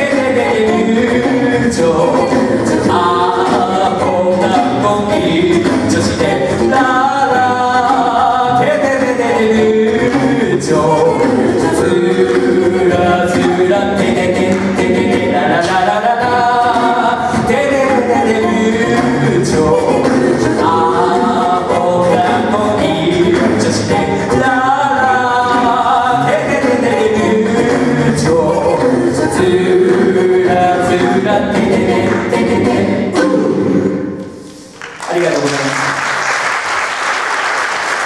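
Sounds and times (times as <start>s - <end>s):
a cappella group singing: 0.0s - 34.7s.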